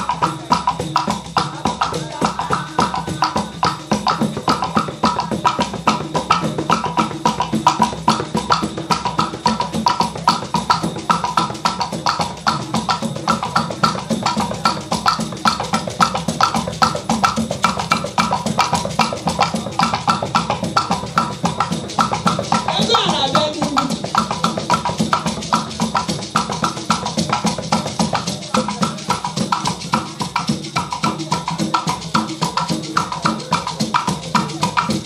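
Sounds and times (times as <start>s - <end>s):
drums: 0.0s - 35.0s
sharp wood-block strikes: 0.0s - 35.0s.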